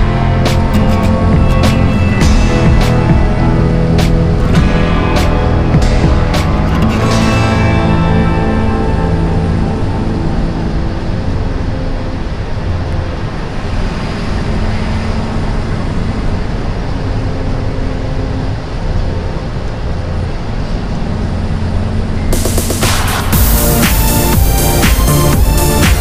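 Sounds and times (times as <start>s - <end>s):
car road noise: 0.0s - 26.0s.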